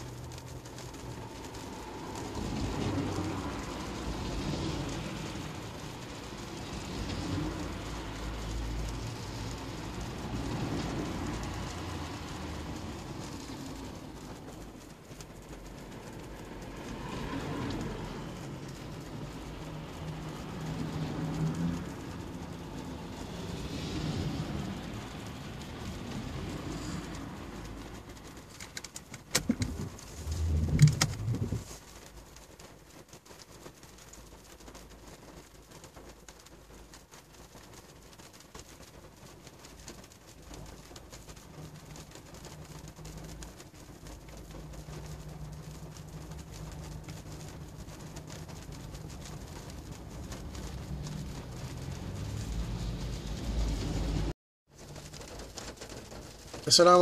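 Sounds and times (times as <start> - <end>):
low rumble of car and traffic: 0.0 - 57.0
rain on car roof: 0.0 - 57.0
windscreen wipers clicking and humming: 0.0 - 57.0.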